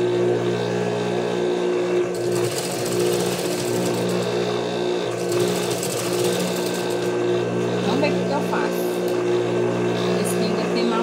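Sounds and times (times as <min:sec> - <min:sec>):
sewing machine motor hum: 0:00.0 - 0:11.0.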